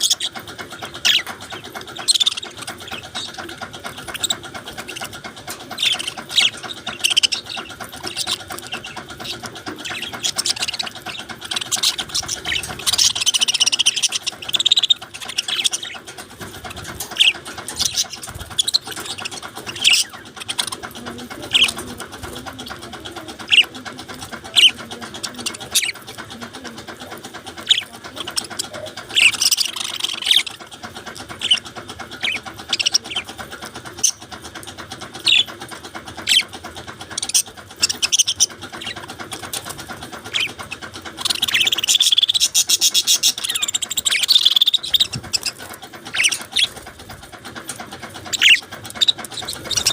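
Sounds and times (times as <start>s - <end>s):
budgerigars chirping: 0.0s - 26.1s, 27.2s - 34.3s, 35.2s - 49.9s
budgerigars warbling chatter: 0.0s - 49.9s.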